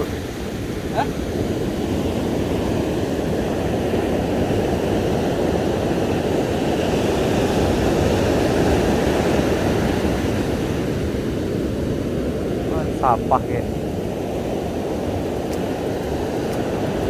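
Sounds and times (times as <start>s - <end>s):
ocean surf breaking on sand: 0.0s - 17.0s
wind buffeting microphone: 0.0s - 17.0s.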